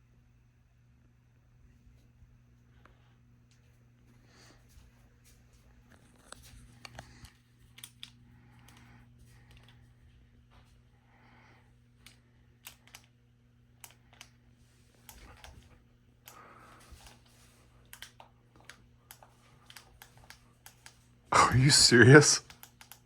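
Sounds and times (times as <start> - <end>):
faint fan motor hum: 0.0 - 23.0.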